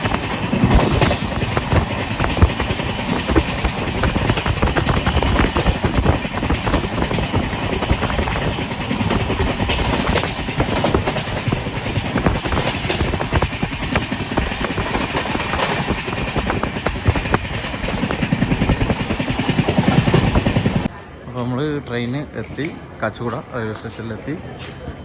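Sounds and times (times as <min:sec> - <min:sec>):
wheels clicking and rattling: 0:00.0 - 0:21.0
train rumbling along track: 0:00.0 - 0:25.0.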